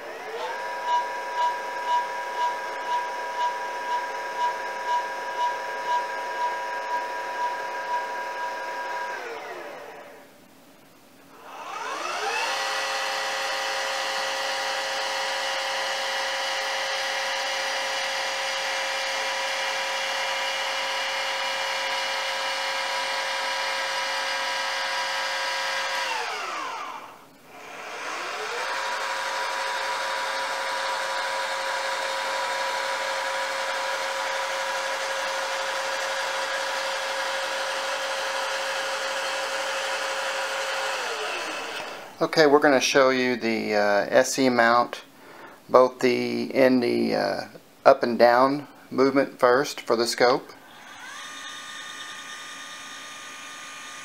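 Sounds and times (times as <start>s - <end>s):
motor geared whine: 0.0s - 10.3s, 11.4s - 42.5s, 50.6s - 54.0s.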